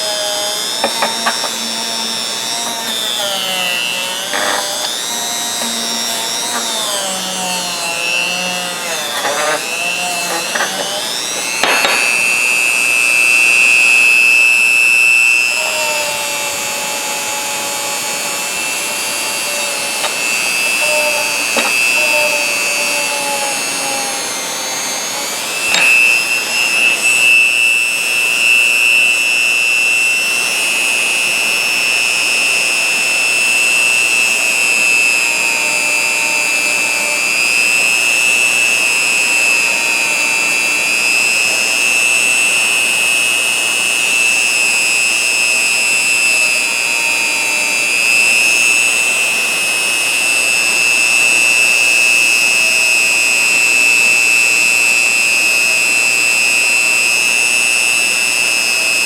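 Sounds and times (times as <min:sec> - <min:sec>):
rotary tool whining on metal: 0:00.0 - 0:59.0.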